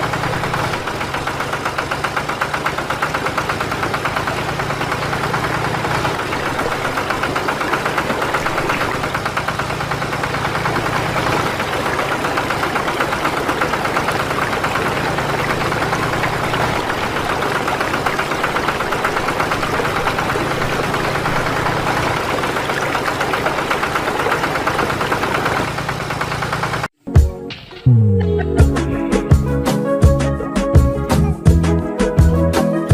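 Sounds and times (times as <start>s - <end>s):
small motor rattling and humming: 0.0s - 26.9s.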